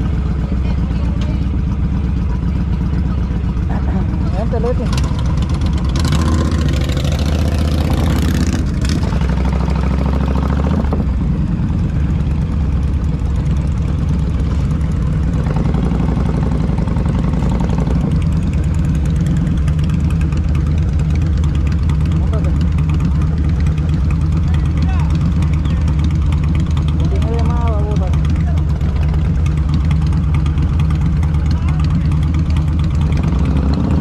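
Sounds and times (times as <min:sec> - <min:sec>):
motorcycle engine idling: 0:00.0 - 0:34.0
other motorcycles idling: 0:00.0 - 0:34.0.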